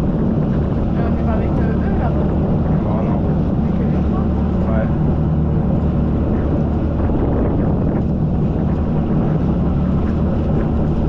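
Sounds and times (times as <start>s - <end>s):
jet ski engine running: 0.0s - 11.0s
wind buffeting microphone: 0.0s - 11.0s.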